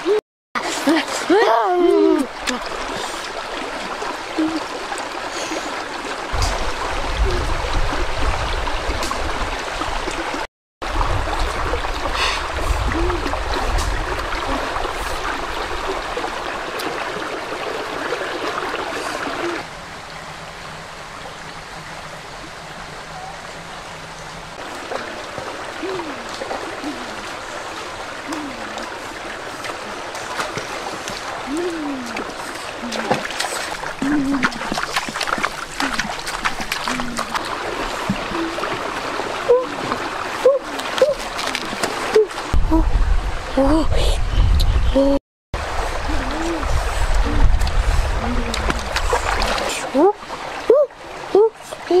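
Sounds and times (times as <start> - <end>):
stream flowing and trickling: 0.0 - 52.0.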